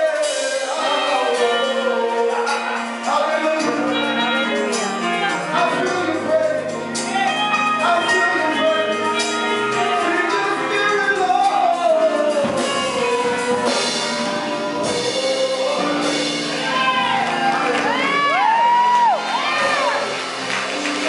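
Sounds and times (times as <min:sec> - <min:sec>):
man singing gospel through microphone: 0:00.0 - 0:18.8
sustained keyboard chords: 0:00.0 - 0:21.0.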